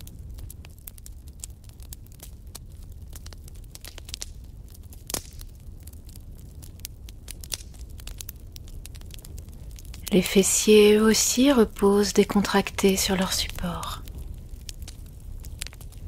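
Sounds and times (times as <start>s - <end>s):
fire low rumble: 0.0s - 16.0s
wood fire crackling and popping: 0.0s - 16.0s.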